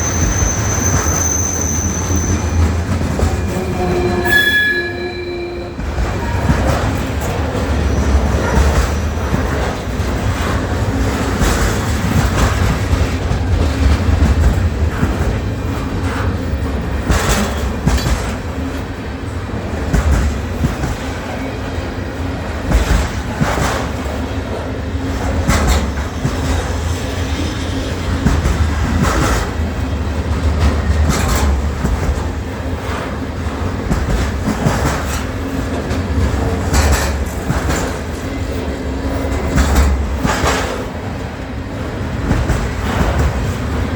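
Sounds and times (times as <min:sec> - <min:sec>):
train rumbling on rails: 0:00.0 - 0:43.9
wheels clacking over rail joints: 0:04.9 - 0:43.9.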